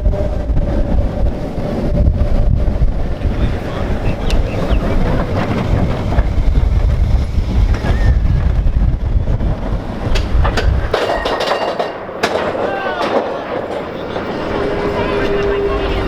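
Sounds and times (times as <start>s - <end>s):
roller coaster cars clicking: 0.0s - 16.0s
roller coaster cars squealing: 0.0s - 16.0s
roller coaster rumbling on track: 0.0s - 16.0s
wind over microphone: 0.0s - 16.0s.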